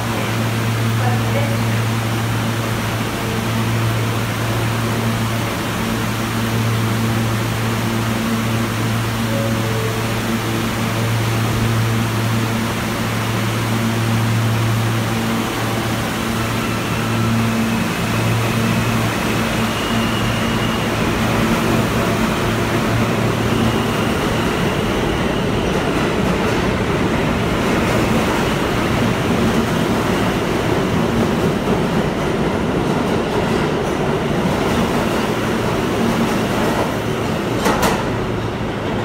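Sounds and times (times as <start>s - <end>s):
subway train wheels rumbling: 0.0s - 39.0s.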